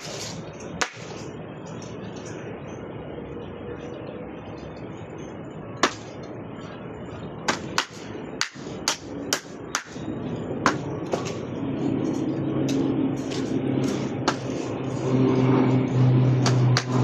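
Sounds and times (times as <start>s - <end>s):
low engine-like hum: 0.0s - 17.0s
steady background noise: 0.0s - 17.0s.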